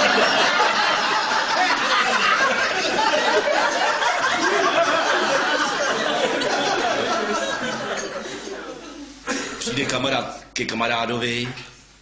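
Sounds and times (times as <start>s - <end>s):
audience laughing: 0.0s - 9.8s.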